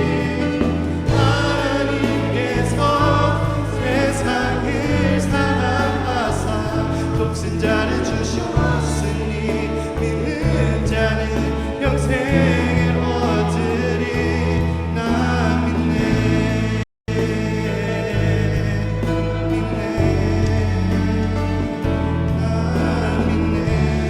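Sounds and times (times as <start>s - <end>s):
band with steady bass line: 0.0s - 24.0s
group singing worship song: 0.0s - 24.0s.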